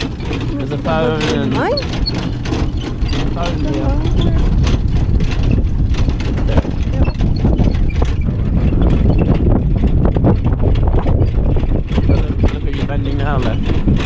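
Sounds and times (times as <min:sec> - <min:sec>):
carriage wheels rumbling: 0:00.0 - 0:14.0
hooves and carriage rattling: 0:00.0 - 0:14.0
wind buffeting microphone: 0:00.0 - 0:14.0.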